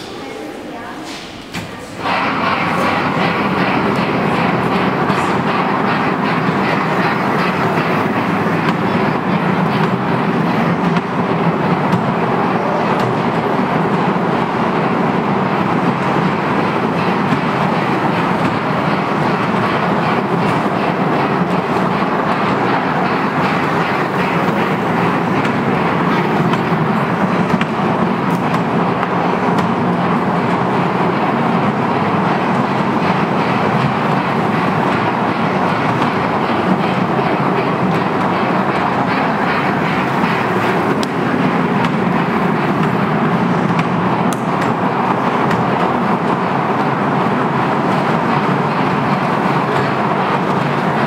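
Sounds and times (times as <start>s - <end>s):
shopping centre background noise: 0.0s - 51.0s
steady background hum: 0.0s - 51.0s
ride-on train rolling on track: 1.2s - 51.0s.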